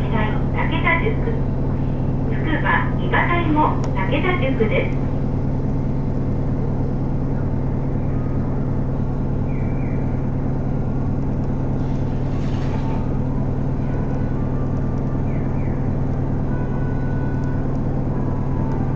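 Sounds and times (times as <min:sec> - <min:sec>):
bus diesel engine hum: 0:00.0 - 0:18.9.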